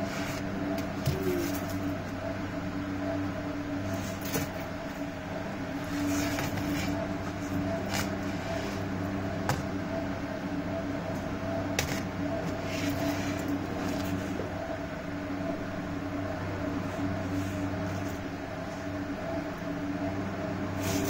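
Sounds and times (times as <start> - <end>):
machine hum with held tones: 0.0 - 21.0.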